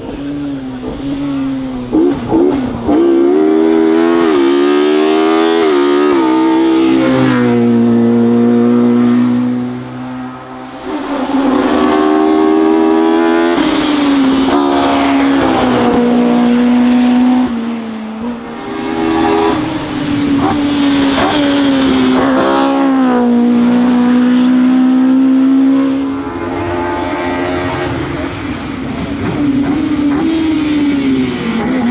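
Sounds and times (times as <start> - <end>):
race car engine at high revs: 0.0 - 31.9.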